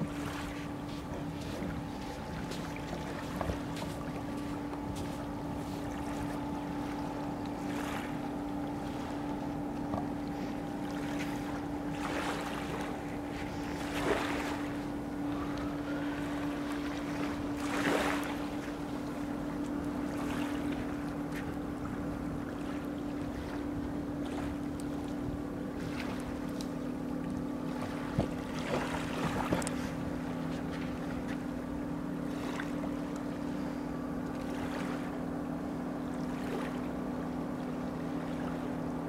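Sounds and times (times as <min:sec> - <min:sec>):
distant ferry engines droning: 0:00.0 - 0:39.0
waves lapping: 0:00.0 - 0:39.0
wind: 0:00.0 - 0:39.0.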